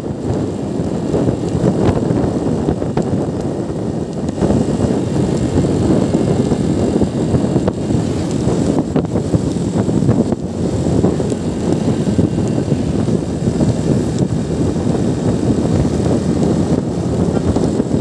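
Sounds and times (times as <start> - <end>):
motorcycle engine drone: 0.0 - 18.0
wind rumble on microphone: 0.0 - 18.0.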